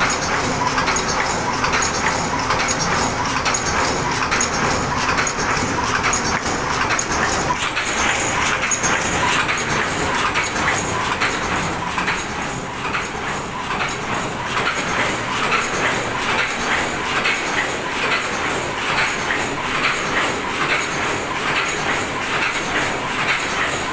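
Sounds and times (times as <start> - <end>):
machine rhythmic mechanical clatter: 0.0 - 23.9.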